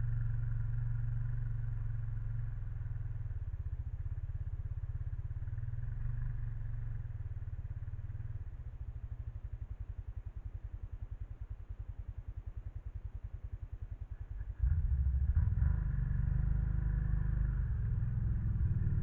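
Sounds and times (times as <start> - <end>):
engine idling down: 0.0 - 19.0.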